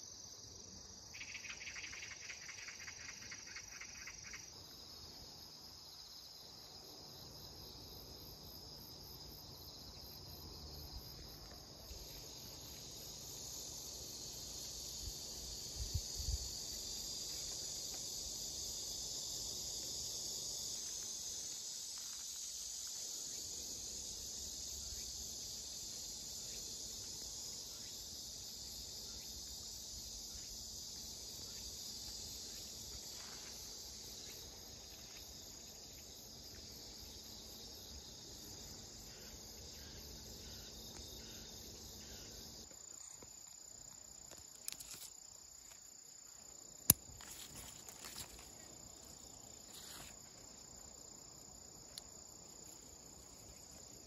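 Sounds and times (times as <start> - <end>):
crickets trilling: 0.0 - 54.0
insect fast pulsing: 0.7 - 5.9, 6.6 - 54.0.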